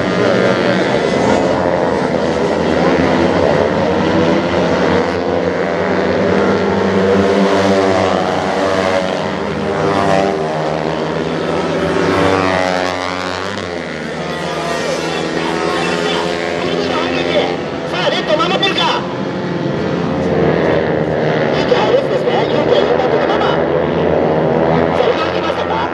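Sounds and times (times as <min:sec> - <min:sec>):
two-stroke minibike engines buzzing: 0:00.0 - 0:25.9.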